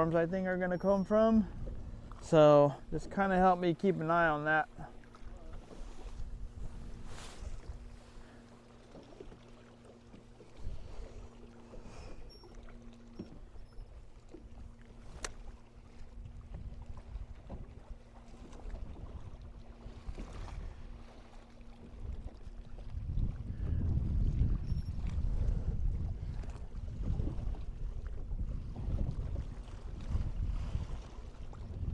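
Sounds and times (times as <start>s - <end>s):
wind rumble on microphone: 0.0s - 3.6s, 4.7s - 8.3s, 10.5s - 12.3s, 13.4s - 31.9s
boat motor hum: 0.0s - 31.9s
low water rumble: 0.0s - 31.9s.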